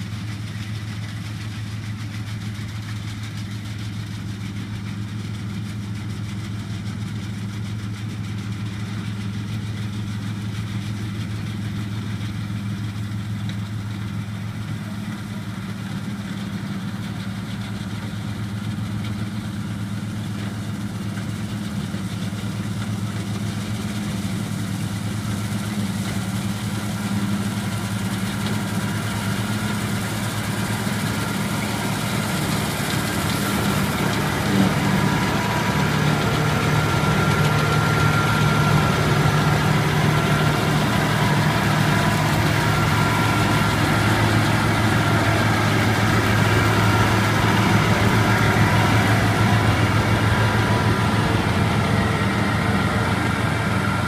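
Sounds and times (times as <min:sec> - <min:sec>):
combine harvester engine humming: 0:00.0 - 0:54.0.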